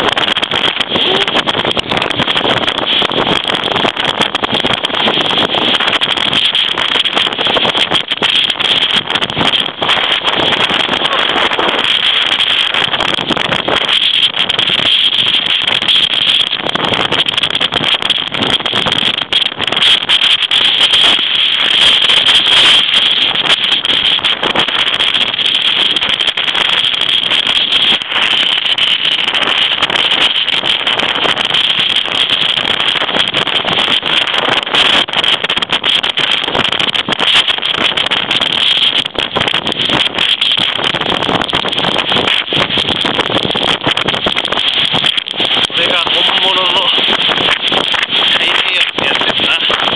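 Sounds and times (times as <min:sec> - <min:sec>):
gale wind gusting: 0:00.0 - 0:49.9.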